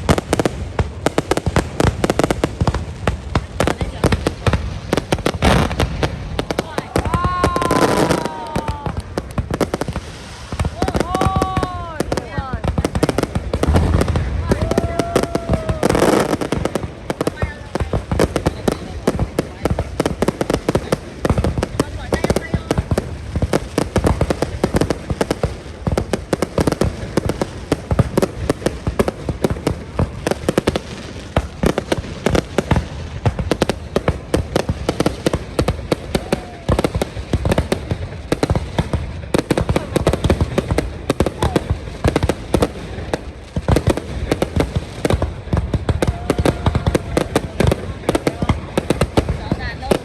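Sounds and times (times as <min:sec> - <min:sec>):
crowd voices: 0:00.0 - 0:50.0
fireworks bangs: 0:00.0 - 0:50.0.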